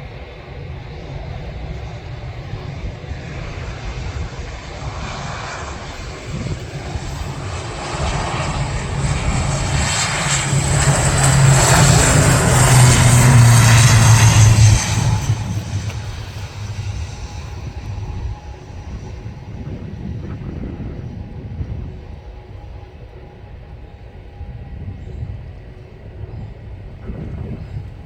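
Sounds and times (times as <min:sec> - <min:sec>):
airplane engines passing: 0:00.0 - 0:28.0.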